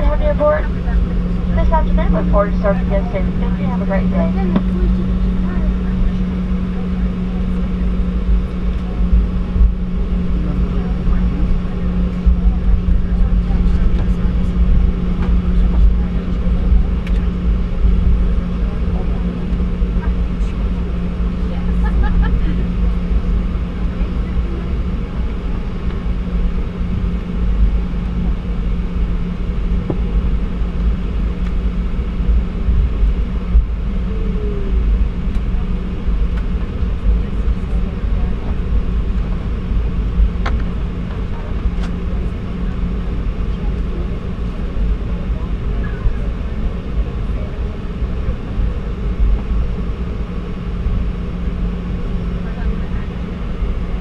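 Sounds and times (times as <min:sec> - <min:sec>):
low rumble of landing gear rolling: 0:00.0 - 0:54.0
steady low cabin hum: 0:00.0 - 0:54.0.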